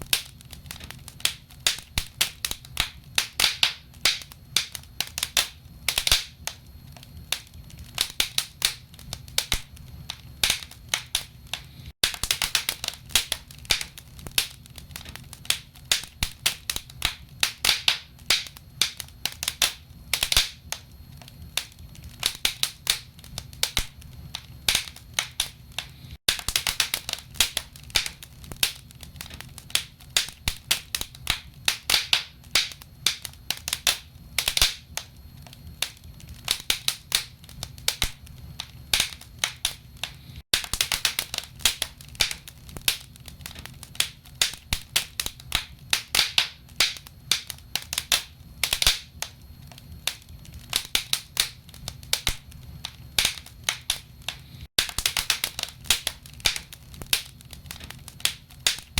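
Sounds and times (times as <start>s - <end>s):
logs crackling and popping: 0.0s - 58.9s.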